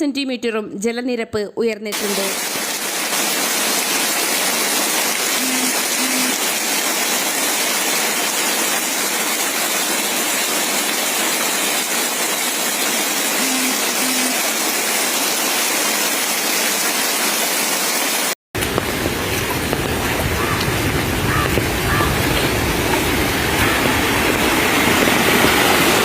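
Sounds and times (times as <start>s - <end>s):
loud rushing water: 2.0s - 26.0s.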